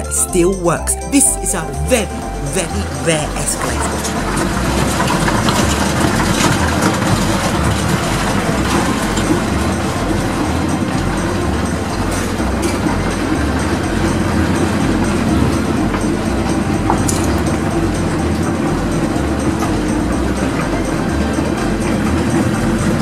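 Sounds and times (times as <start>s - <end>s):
escalator mechanical rumble: 1.7s - 23.0s.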